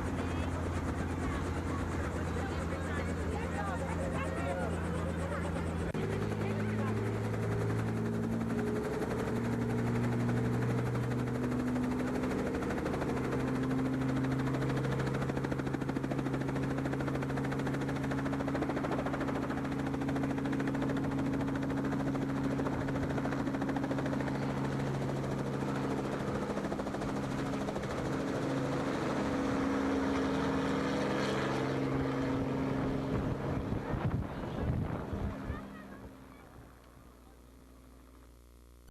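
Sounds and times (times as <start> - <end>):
helicopter engine and rotor drone: 0.0 - 38.4.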